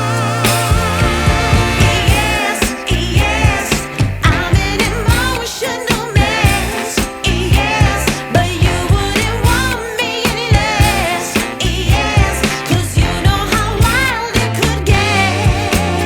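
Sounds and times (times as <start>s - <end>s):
pop music with sung vocals: 0.0s - 16.0s.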